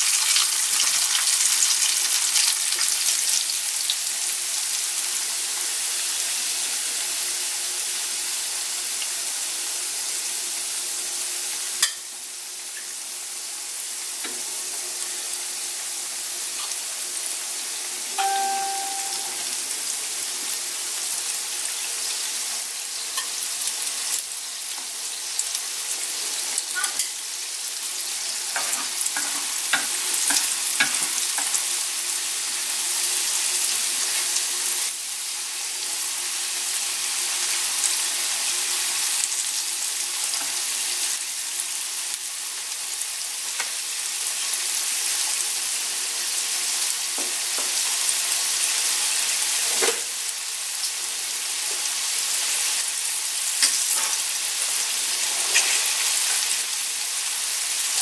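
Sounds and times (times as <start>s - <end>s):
corn deep-frying in oil: 0.0s - 58.0s.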